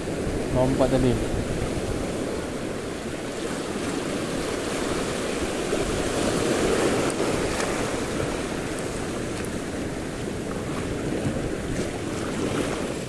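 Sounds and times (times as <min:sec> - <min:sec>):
sea waves washing ashore: 0:00.0 - 0:13.0
wind buffeting microphone: 0:00.0 - 0:13.0.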